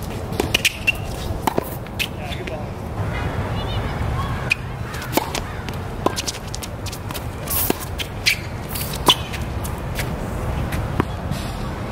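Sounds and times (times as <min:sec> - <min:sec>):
racket hitting tennis ball: 0:00.0 - 0:02.6, 0:04.4 - 0:11.7
tennis shoes scuffing on court: 0:00.0 - 0:02.6, 0:04.5 - 0:11.7.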